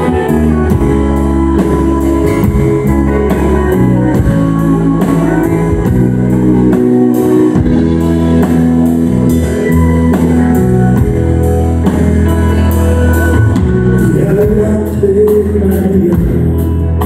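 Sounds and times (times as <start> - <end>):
bass: 0.0 - 17.0
drums keeping steady beat: 0.0 - 17.0.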